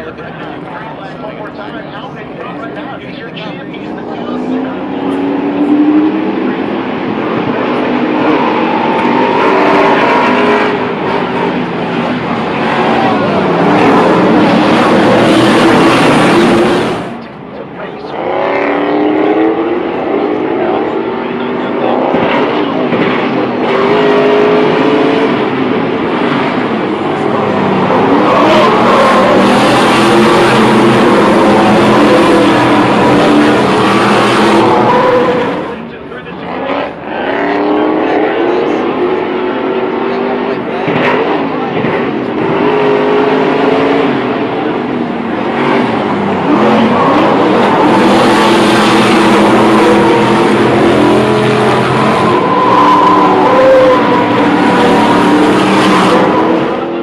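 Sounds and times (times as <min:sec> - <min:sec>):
racing truck engines revving: 0:00.0 - 0:57.0.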